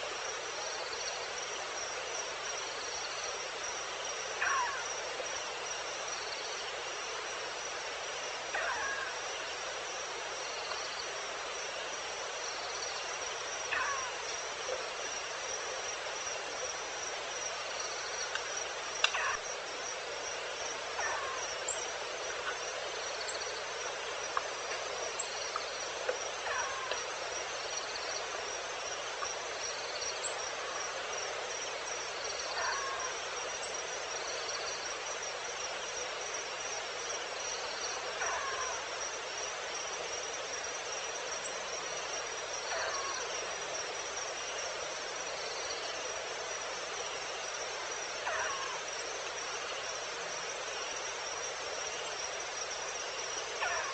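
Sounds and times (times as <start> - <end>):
insects trilling: 0.0 - 53.9.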